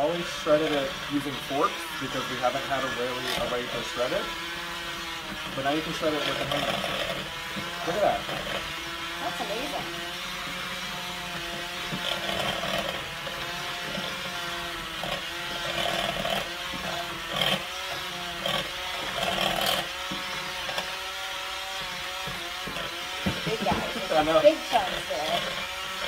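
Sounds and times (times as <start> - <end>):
hand mixer motor whining: 0.0 - 26.0.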